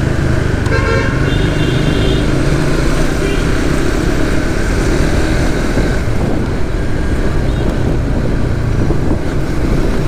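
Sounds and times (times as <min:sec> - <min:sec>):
motorcycle engine: 0:00.0 - 0:10.0
road noise: 0:00.0 - 0:10.0
wind noise on microphone: 0:00.1 - 0:10.0.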